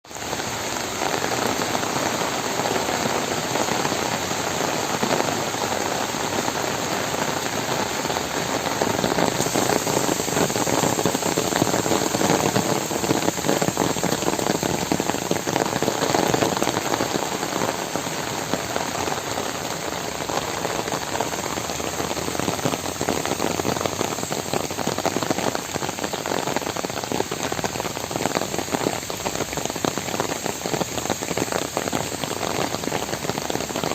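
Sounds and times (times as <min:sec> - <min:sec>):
heavy rain patter: 0:00.0 - 0:33.9.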